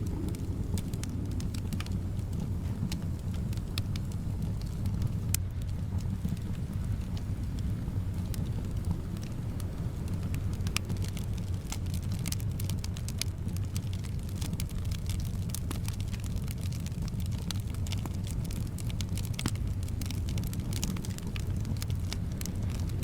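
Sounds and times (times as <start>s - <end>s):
low rumble of wind: 0.0s - 23.0s
wood fire crackling and popping: 0.0s - 23.0s.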